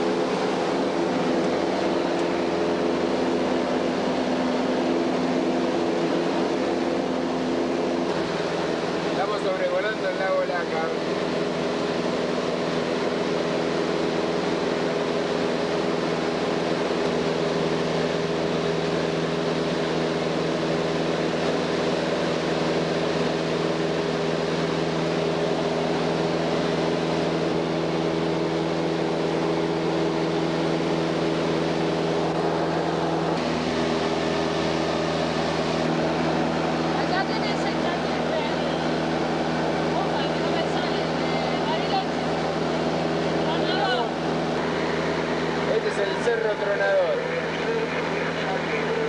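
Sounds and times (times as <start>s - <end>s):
light aircraft engine and propeller: 0.0s - 49.0s.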